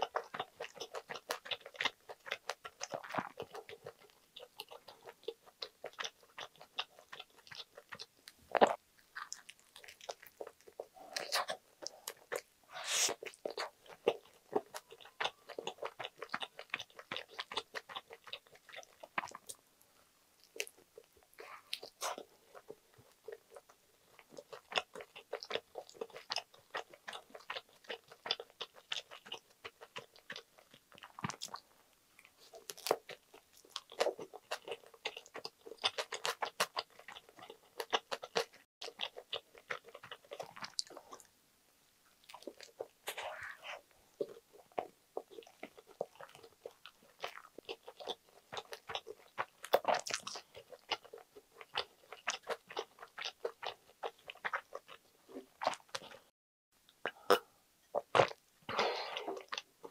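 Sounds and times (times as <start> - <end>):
crunchy chewing of toast: 0.0 - 19.7, 20.4 - 41.3, 42.1 - 56.3.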